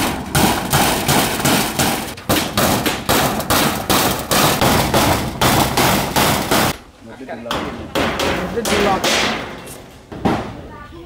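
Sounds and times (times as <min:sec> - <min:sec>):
hammer nailing tin sheet: 0:00.0 - 0:06.8, 0:07.5 - 0:10.6.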